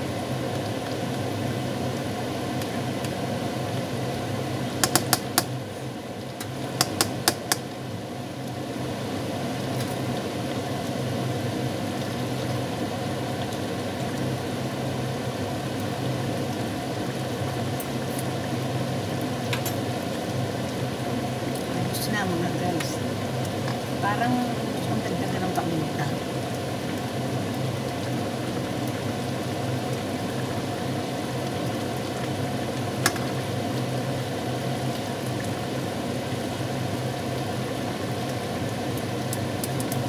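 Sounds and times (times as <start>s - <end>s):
stew simmering: 0.0s - 40.0s.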